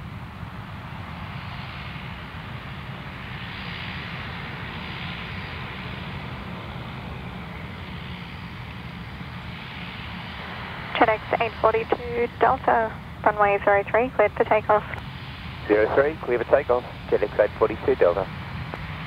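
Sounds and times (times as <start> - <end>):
turboprop engines humming: 0.0 - 19.0.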